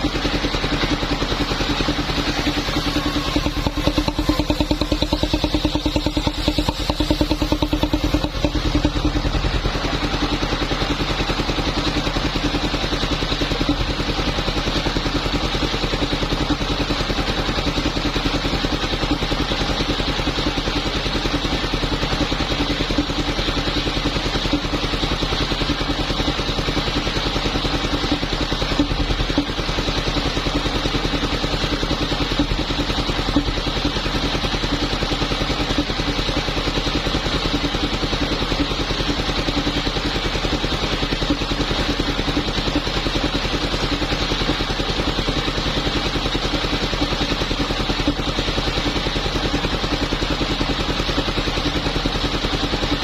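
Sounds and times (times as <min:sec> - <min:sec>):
sawing machine engine running: 0:00.0 - 0:53.0.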